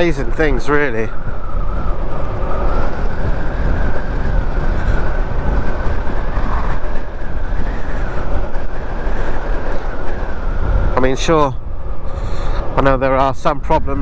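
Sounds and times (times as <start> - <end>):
road rush: 0.0 - 14.0
wind buffeting microphone: 0.0 - 14.0.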